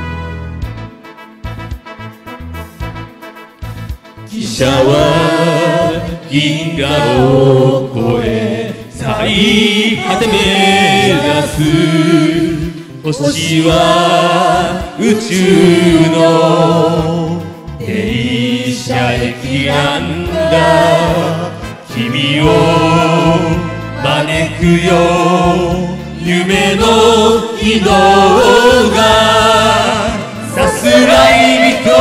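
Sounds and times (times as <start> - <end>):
karaoke backing track: 0.0 - 32.0
people singing karaoke: 4.3 - 32.0.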